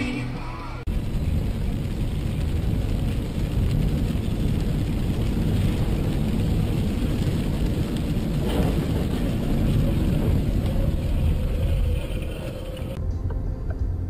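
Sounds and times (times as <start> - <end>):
heavy rain: 0.0 - 13.0
tyre and road noise: 0.0 - 14.0.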